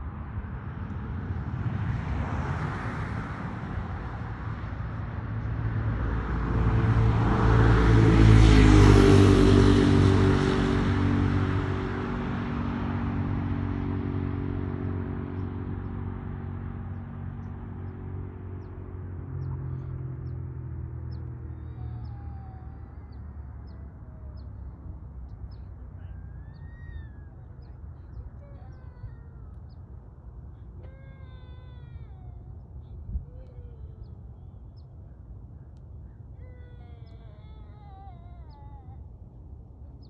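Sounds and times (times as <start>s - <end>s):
traffic rumble: 0.0s - 40.0s
vehicle passing by: 0.0s - 40.0s.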